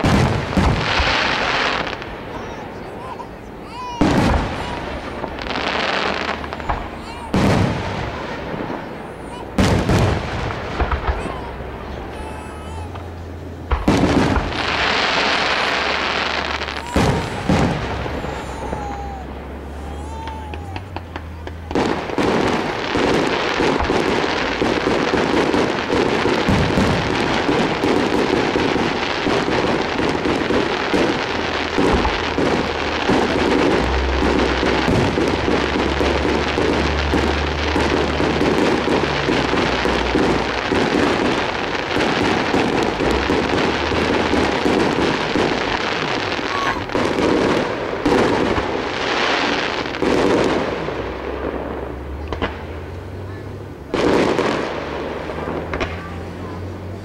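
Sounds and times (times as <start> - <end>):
fireworks bursting: 0.0 - 57.0
loud firework reports: 0.0 - 57.0.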